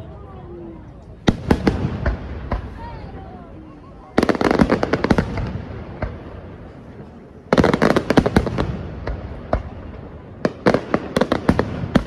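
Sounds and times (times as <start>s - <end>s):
fireworks bursting: 1.2s - 12.0s.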